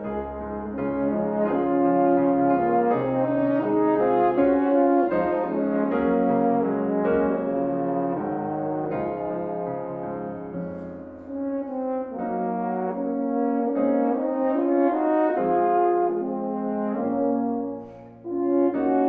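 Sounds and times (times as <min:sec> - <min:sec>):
french horns playing duet: 0:00.0 - 0:19.0.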